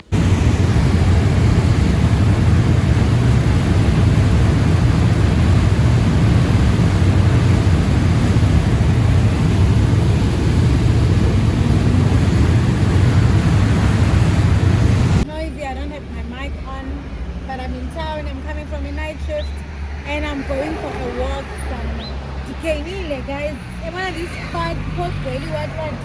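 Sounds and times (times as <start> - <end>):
town street noise: 0.0 - 26.0.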